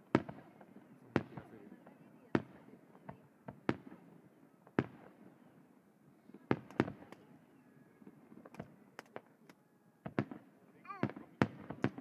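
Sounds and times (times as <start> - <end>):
faint firework pops: 0.1 - 5.2, 6.3 - 7.3, 8.0 - 12.0.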